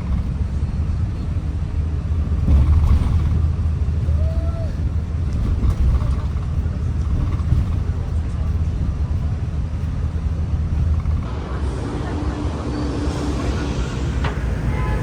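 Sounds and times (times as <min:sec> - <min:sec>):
vehicle rumbling in motion: 0:00.0 - 0:15.0.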